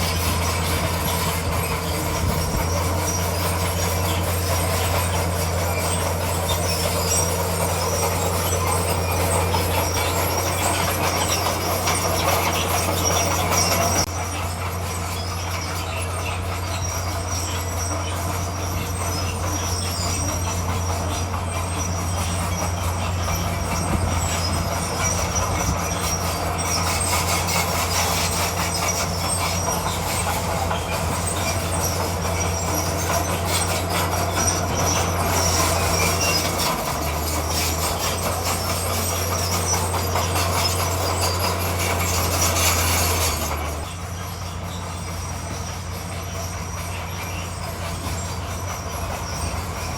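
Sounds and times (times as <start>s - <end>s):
bulldozer diesel engine running: 0.0s - 49.9s
crawler tracks squealing and clanking: 0.0s - 49.9s.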